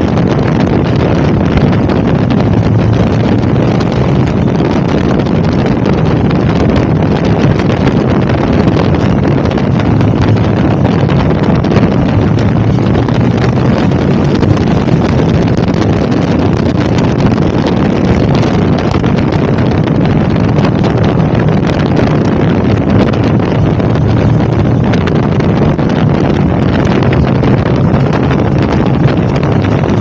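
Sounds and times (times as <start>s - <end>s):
motorcycle engine cruising: 0.0s - 30.0s
wind buffeting microphone: 0.0s - 30.0s.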